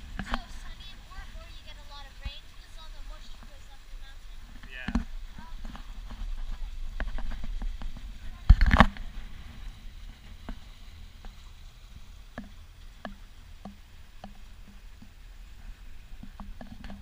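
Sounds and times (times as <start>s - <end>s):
low steady rumble aboard boat: 0.0s - 17.0s.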